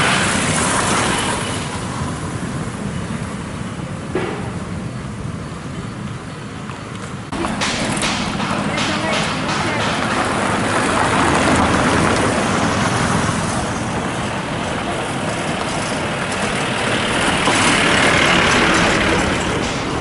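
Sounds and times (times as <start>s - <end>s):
heavy traffic on gravel road: 0.0s - 20.0s.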